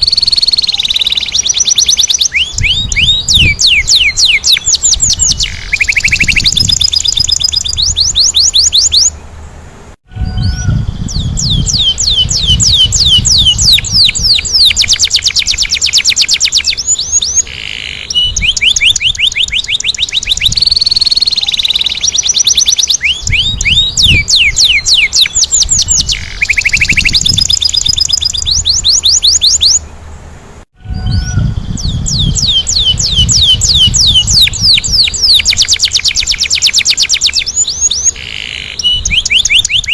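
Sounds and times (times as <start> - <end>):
canary singing trills: 0.0 - 9.4, 10.1 - 30.0, 30.8 - 39.9.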